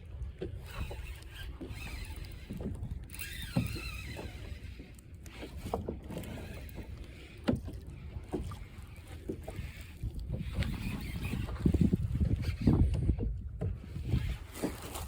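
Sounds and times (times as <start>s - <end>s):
water lapping against a boat: 0.0s - 15.0s.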